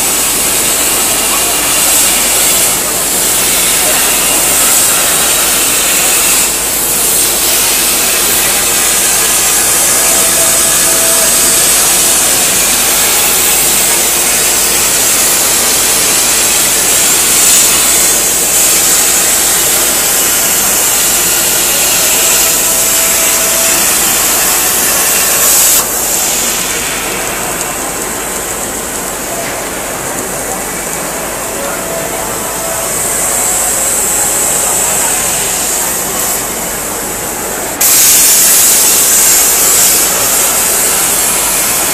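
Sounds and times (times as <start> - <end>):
cutting torch hissing: 0.0 - 41.9.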